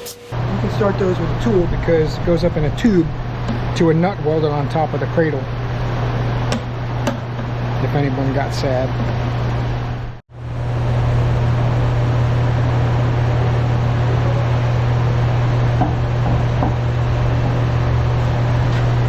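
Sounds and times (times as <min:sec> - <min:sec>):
noisy rush: 0:00.0 - 0:15.7
low machine hum: 0:00.0 - 0:19.0.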